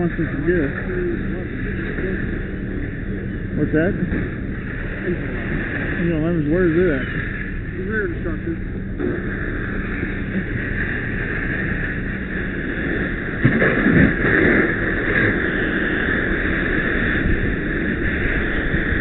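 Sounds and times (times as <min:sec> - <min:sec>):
fire roaring: 0:00.0 - 0:19.0.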